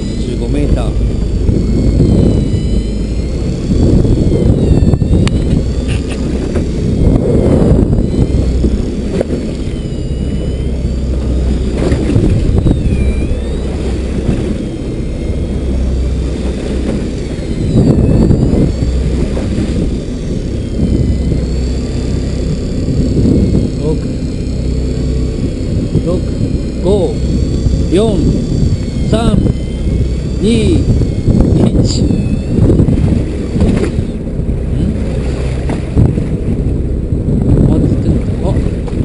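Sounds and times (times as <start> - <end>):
boat engine rumbling: 0.0 - 39.0
faint wavering whine: 0.0 - 39.0
waves splashing along hull: 0.0 - 39.0
wind buffeting microphone: 0.0 - 39.0.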